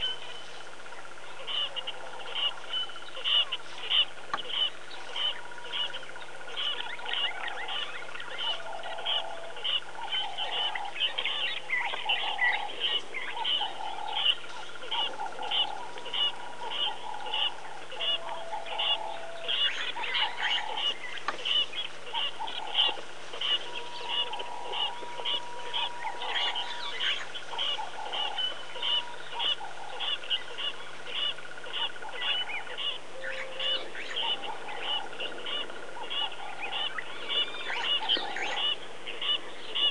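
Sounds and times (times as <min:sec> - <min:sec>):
rapid animal chirping: 0:00.0 - 0:39.9
animal honking calls: 0:01.4 - 0:39.9.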